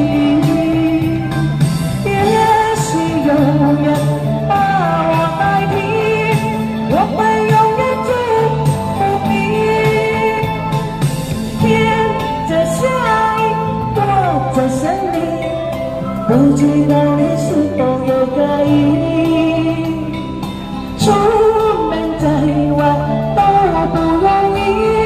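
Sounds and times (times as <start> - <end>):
musical accompaniment: 0.0 - 25.0
woman singing pop ballad: 0.0 - 25.0.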